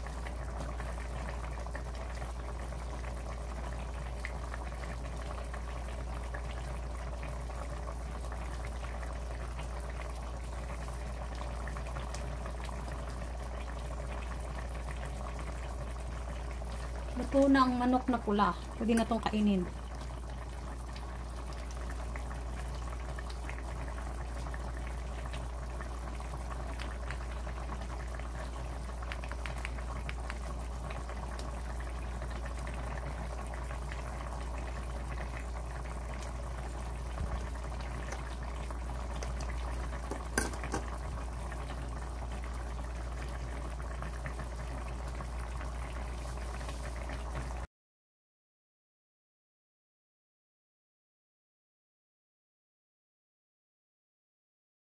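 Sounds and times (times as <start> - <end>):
sauce bubbling in a pot: 0.0 - 47.7.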